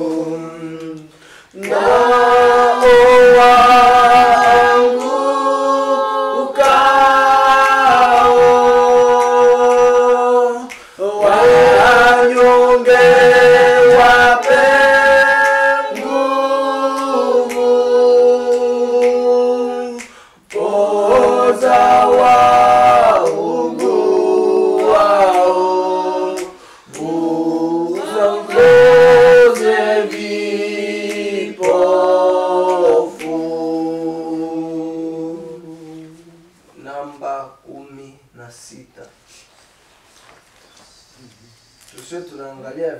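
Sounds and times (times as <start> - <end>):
group singing a hymn: 0.0 - 37.0.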